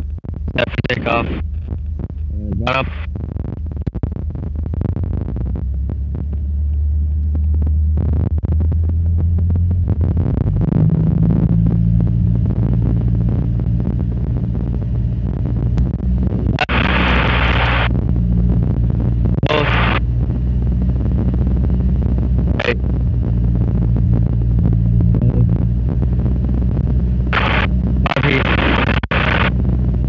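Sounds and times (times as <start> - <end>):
propeller aircraft engine running: 0.0 - 30.0.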